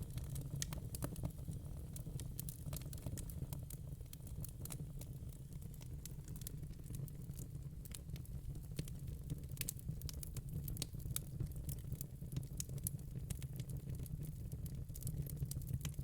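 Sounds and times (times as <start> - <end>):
fire crackling: 0.0 - 13.6.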